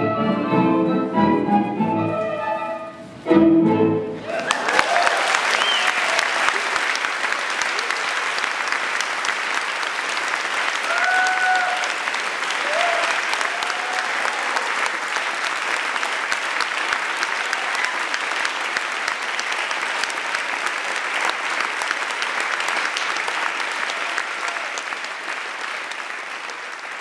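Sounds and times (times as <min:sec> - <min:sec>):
audience applauding: 0:04.2 - 0:27.0.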